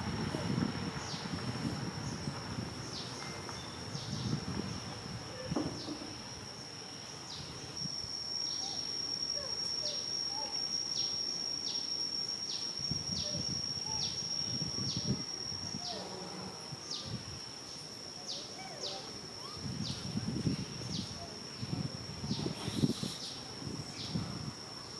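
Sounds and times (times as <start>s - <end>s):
cicada droning: 0.0s - 24.9s.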